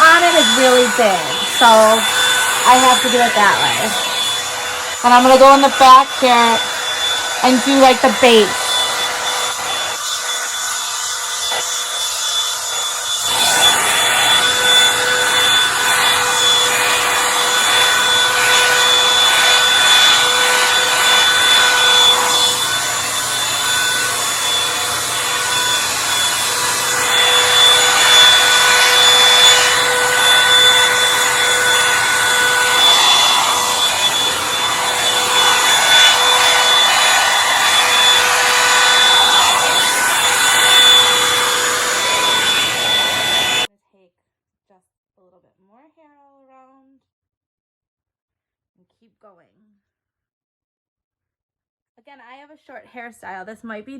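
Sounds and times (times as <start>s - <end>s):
hot-air brush blowing: 0.0s - 43.7s.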